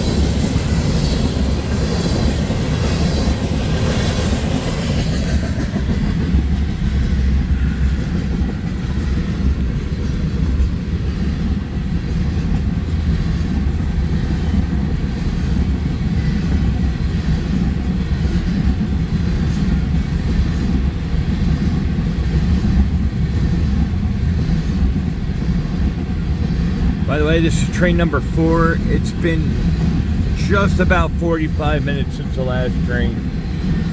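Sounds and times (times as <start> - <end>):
freight train rumbling on rails: 0.0 - 33.9.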